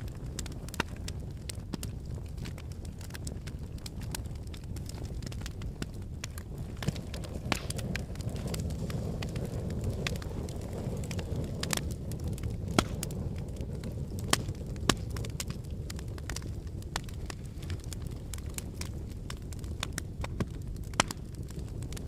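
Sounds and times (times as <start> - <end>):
fireplace flames rumbling: 0.0 - 22.0
logs crackling and popping: 0.0 - 22.0.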